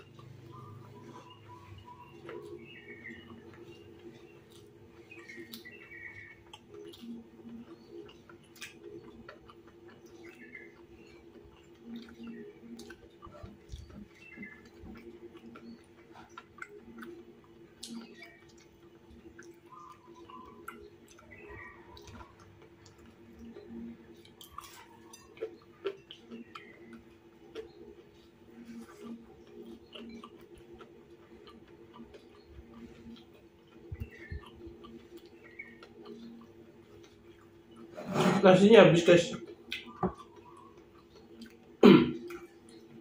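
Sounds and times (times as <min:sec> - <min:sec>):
person chewing: 0:00.0 - 0:38.0, 0:39.4 - 0:43.0
steady low hum: 0:00.0 - 0:43.0.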